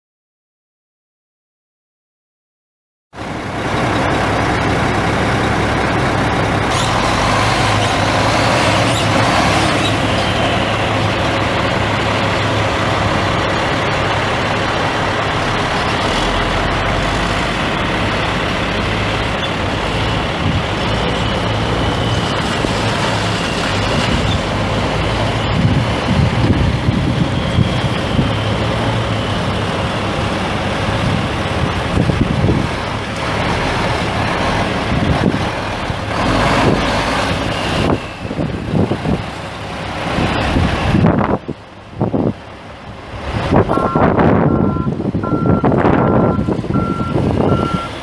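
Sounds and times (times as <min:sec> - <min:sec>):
diesel truck engine running: 0:03.2 - 0:48.0.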